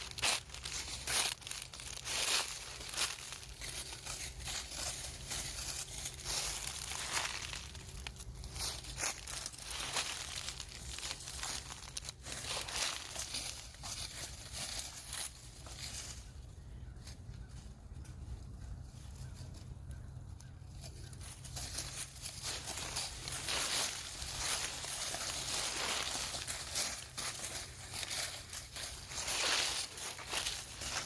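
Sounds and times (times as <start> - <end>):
crinkling rustle: 0.0 - 31.0.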